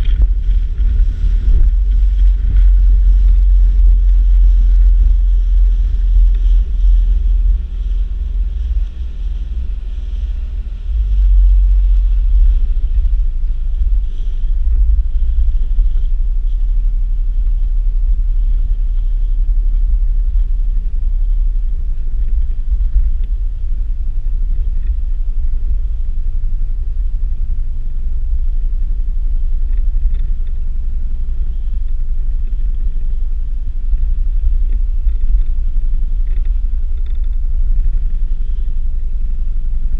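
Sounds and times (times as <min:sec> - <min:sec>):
faint steady hum: 0:00.0 - 0:39.9
wind buffeting microphone: 0:00.0 - 0:39.9.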